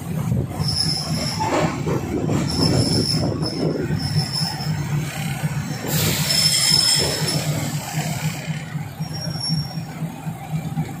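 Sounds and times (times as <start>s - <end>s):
diesel train engine humming: 0.0s - 11.0s
train wheels squealing: 0.5s - 10.2s.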